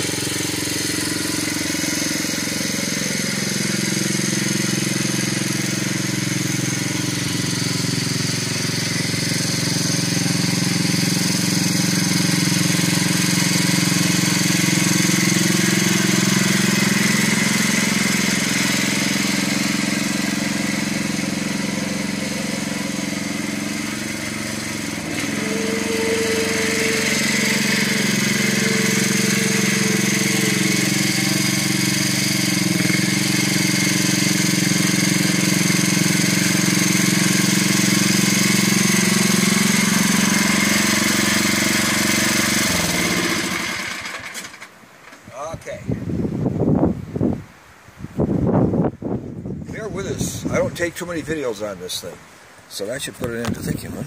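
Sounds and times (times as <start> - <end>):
garden tractor engine running: 0.0 - 45.2
steady whine: 0.0 - 45.2.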